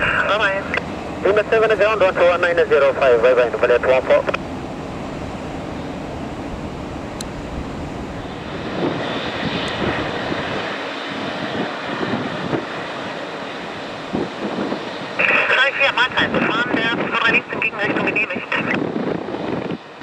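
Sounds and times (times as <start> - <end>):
airliner engine rushing: 0.0 - 20.0.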